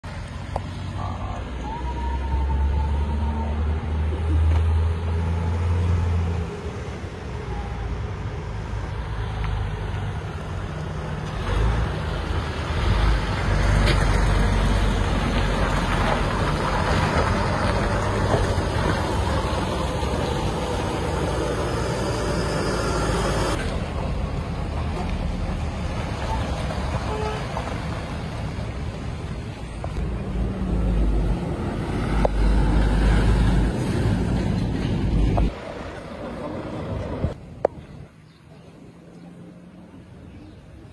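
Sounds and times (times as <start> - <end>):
trucks driving past: 0.0 - 40.9.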